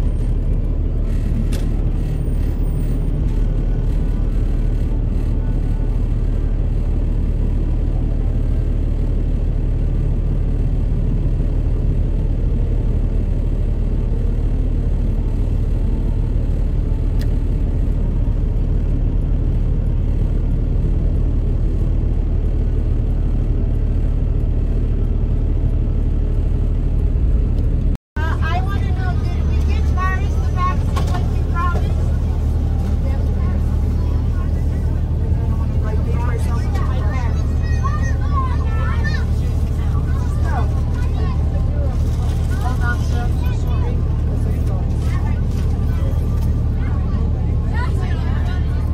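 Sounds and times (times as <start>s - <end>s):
city street traffic rumble: 0.0s - 48.9s
vehicle engines idling: 0.0s - 48.9s.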